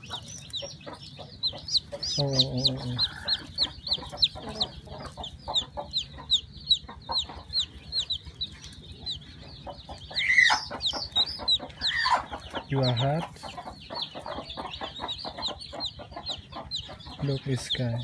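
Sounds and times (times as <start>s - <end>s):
chick peeping: 0.0s - 18.0s.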